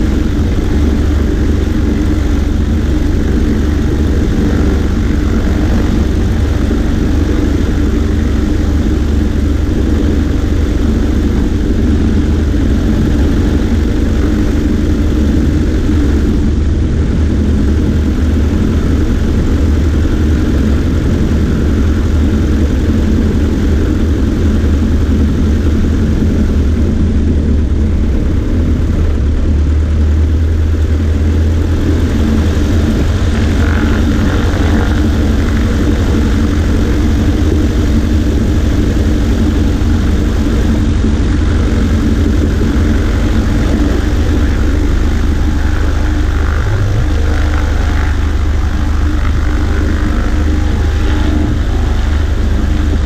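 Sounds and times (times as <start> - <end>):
propeller plane engine drone: 0.0 - 53.0
rushing air: 0.0 - 53.0.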